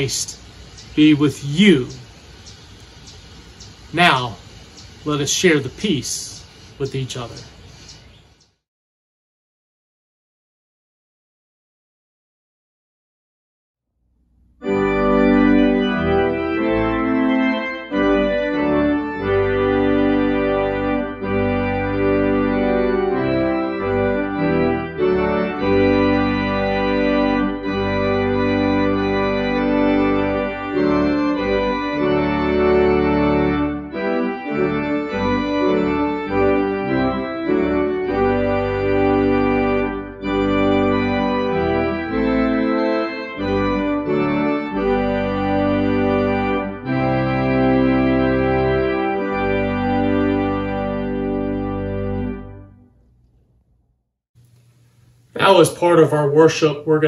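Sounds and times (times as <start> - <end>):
church organ sustained chords: 0.0 - 7.6, 14.4 - 53.1, 55.4 - 57.0.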